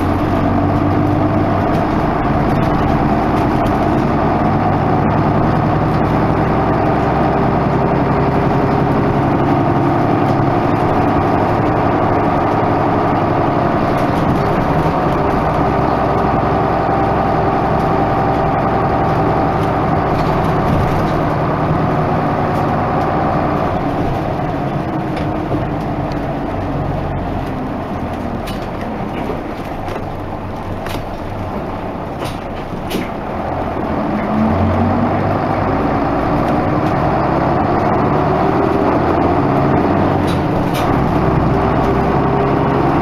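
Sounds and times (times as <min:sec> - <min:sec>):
diesel bus engine running: 0:00.0 - 0:43.0.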